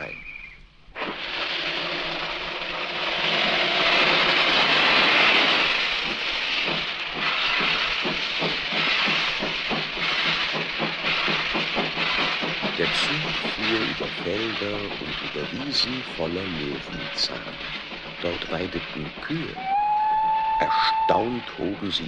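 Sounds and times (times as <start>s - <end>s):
steam hissing: 0.0s - 22.0s
steam locomotive exhaust chuffs: 0.0s - 22.0s.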